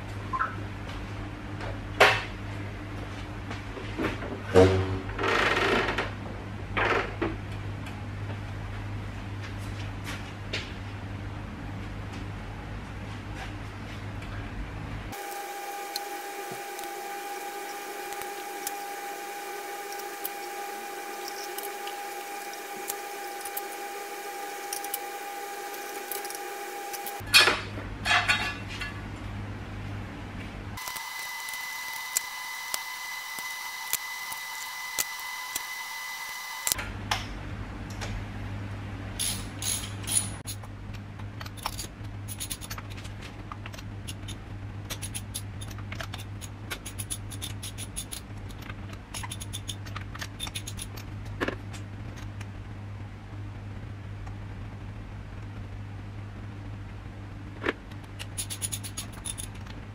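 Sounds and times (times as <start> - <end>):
steady hum: 7.4 - 59.9.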